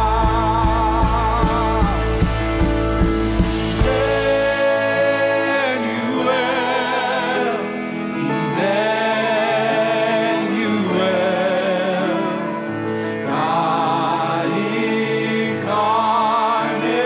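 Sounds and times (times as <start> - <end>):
acoustic guitar: 0.0 - 17.0
choir singing slow song: 0.0 - 17.0.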